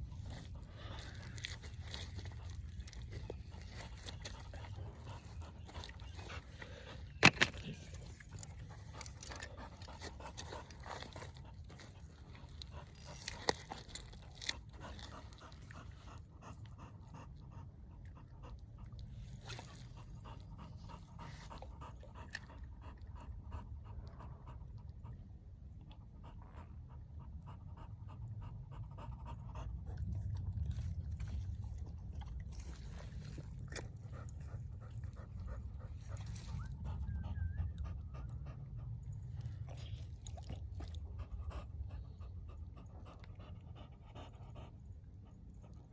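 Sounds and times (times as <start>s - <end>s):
dog panting: 0.0s - 45.9s.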